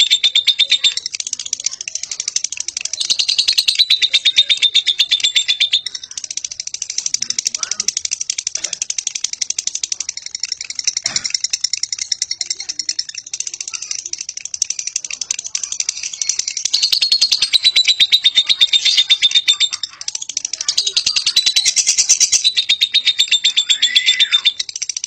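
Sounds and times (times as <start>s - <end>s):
bird rattling chatter: 0.0s - 25.0s.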